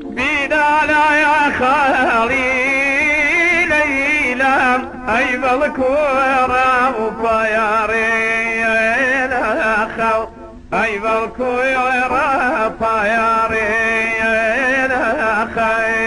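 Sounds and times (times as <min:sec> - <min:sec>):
person singing ornamented melody: 0:00.0 - 0:16.0.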